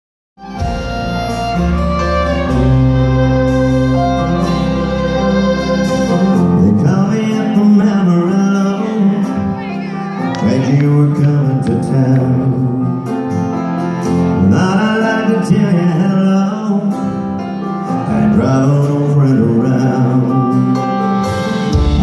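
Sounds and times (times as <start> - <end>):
acoustic guitar: 0.4 - 22.0
live country band playing: 0.4 - 22.0.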